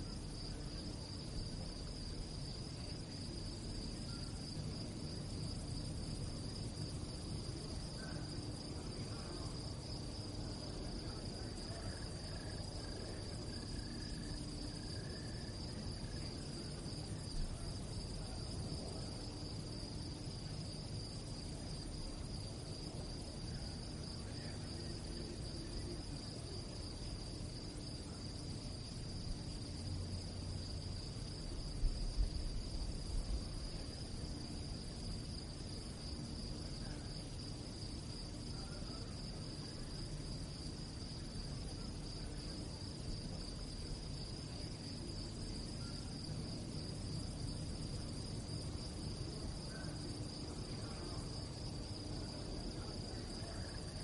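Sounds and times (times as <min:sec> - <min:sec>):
low steady rumble: 0:00.0 - 0:51.4
crickets chirping: 0:00.0 - 0:54.0.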